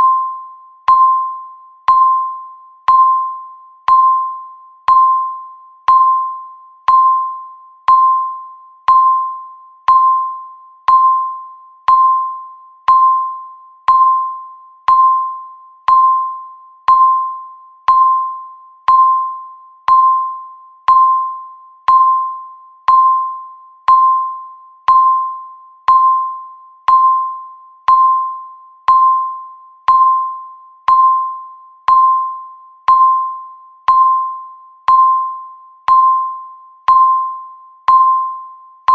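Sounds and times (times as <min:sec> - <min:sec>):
timer tick beeps: 0:00.0 - 0:38.9.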